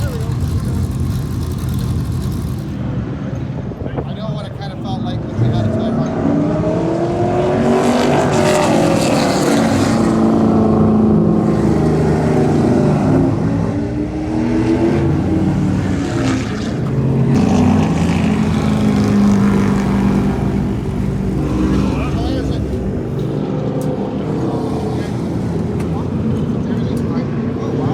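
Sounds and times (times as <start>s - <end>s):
race car engine revving: 0.0s - 3.1s, 4.9s - 27.9s.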